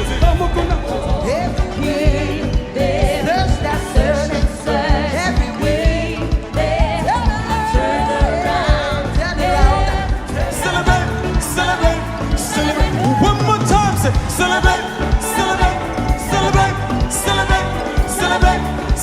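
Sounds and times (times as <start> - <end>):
band with drums and bass: 0.0 - 19.0
person singing: 0.0 - 19.0.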